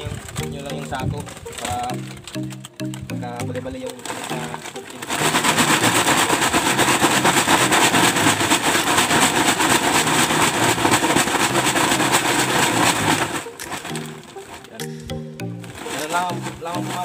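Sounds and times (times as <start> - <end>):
sea urchins rattling in sack: 0.0 - 2.8, 3.8 - 14.8, 15.7 - 17.0.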